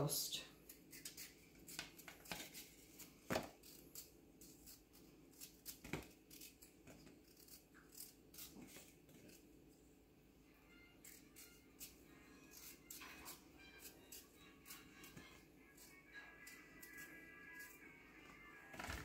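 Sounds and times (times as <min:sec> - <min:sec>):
knife scraping potato skin: 0:00.6 - 0:09.5, 0:10.9 - 0:17.9.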